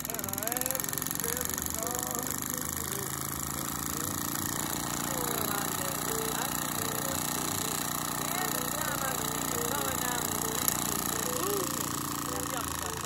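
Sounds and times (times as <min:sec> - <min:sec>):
toy steam engine hissing: 0:00.0 - 0:13.0.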